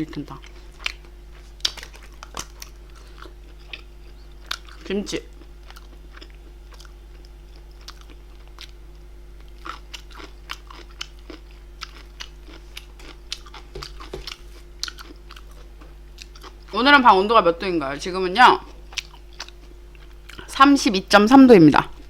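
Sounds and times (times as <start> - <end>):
low electrical hum: 0.0 - 22.0
person chewing and crunching food: 0.1 - 16.8, 18.5 - 20.6.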